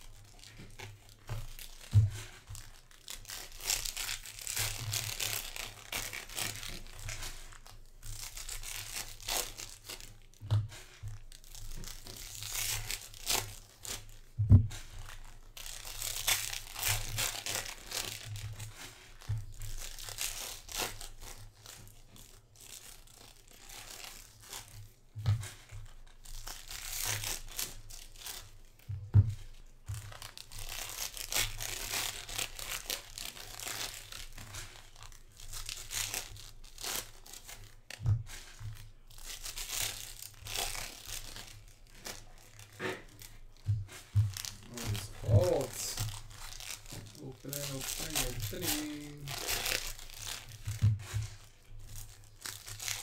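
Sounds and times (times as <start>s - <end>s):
wrappers tearing and crinkling: 0.0s - 53.0s.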